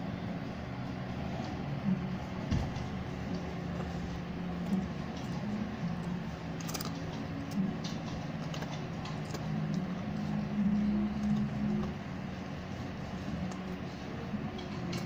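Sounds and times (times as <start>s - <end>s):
steady low hum: 0.0s - 15.0s
puppy chewing crisp wafer: 2.8s - 15.0s.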